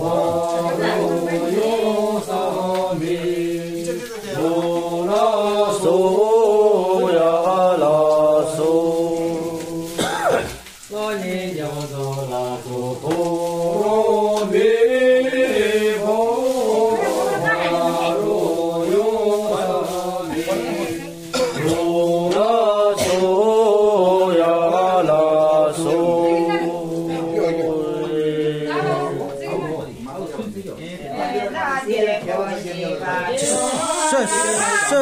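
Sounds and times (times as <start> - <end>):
melodic chanting voices: 0.0 - 35.0.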